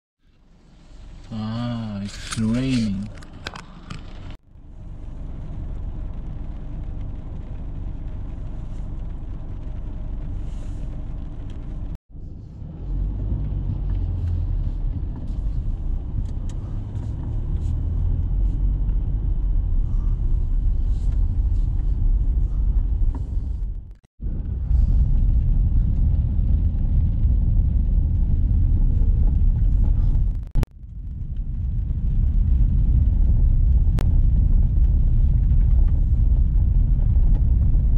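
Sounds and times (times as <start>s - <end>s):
car engine and road rumble: 0.2s - 37.9s.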